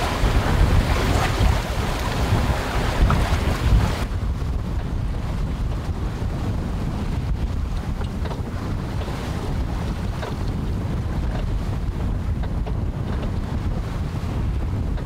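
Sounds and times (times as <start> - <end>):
sea wash: 0.0 - 15.0
wind buffeting microphone: 0.0 - 15.0.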